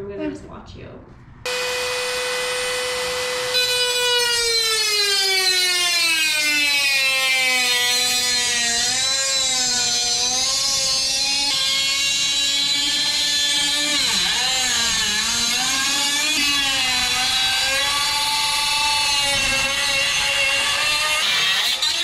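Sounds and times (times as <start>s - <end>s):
cutoff wheel grinding metal: 1.5s - 22.0s
rotary tool whining: 1.5s - 22.0s.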